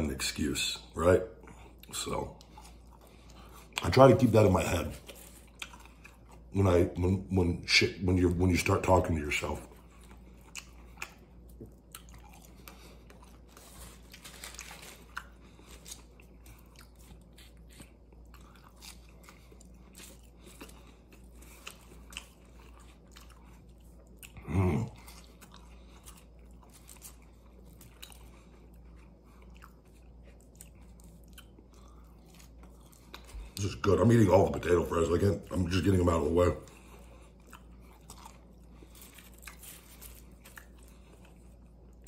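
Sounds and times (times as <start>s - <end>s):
man chewing crunchy food: 0.4s - 42.0s.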